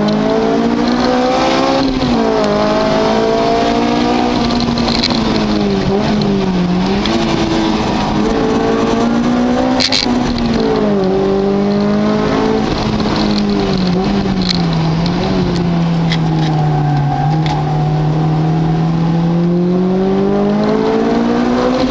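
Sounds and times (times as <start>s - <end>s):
race car engine revving: 0.0s - 21.9s.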